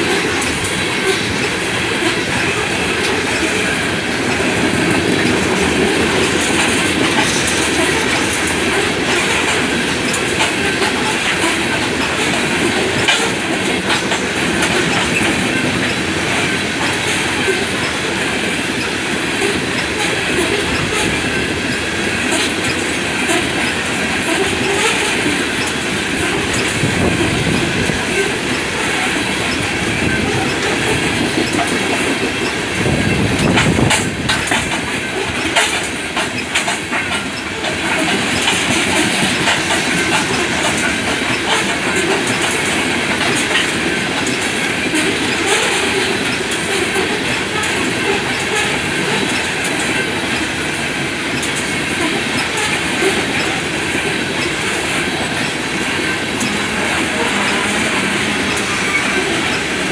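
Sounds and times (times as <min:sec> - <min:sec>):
clickety-clack of train wheels: 0:00.0 - 0:59.9
train cars rumbling past: 0:00.0 - 0:59.9.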